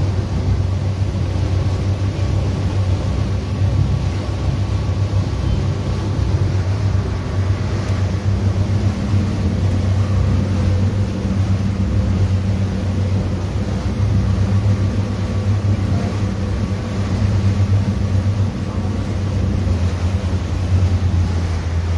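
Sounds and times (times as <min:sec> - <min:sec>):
vehicle engine drone and rumble: 0:00.0 - 0:21.9.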